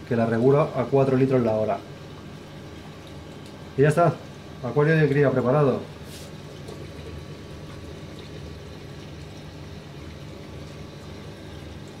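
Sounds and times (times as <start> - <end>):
constant low hum: 0.0 - 12.0
running water: 0.0 - 12.0.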